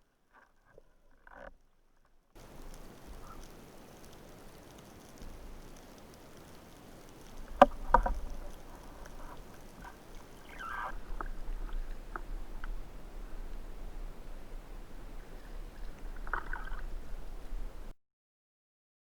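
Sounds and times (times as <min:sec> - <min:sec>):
low rumble of moving water: 0:00.0 - 0:17.9
water sloshing and splashing: 0:02.4 - 0:17.9.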